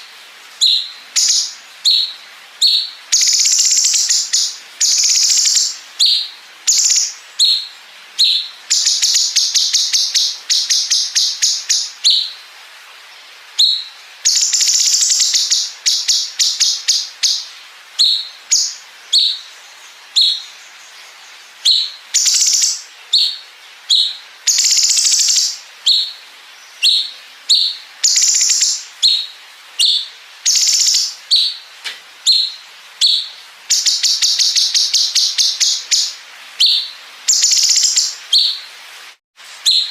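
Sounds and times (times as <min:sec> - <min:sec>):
bird singing with trills and chirps: 0:00.6 - 0:12.4, 0:13.6 - 0:21.0, 0:21.6 - 0:26.2, 0:26.8 - 0:31.6, 0:32.3 - 0:38.6.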